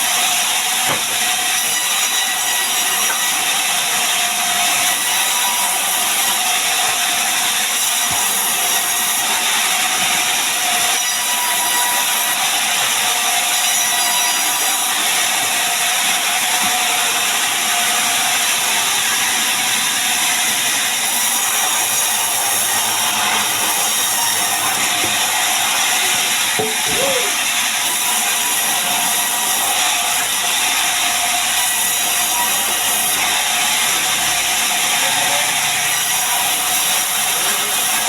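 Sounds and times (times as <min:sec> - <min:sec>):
power saw cutting timber: 0:00.0 - 0:38.0.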